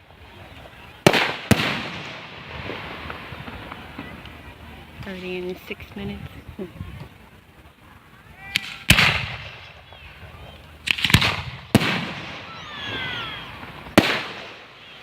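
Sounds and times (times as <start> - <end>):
fireworks bangs with rumble: 0.0 - 7.3, 8.5 - 15.0.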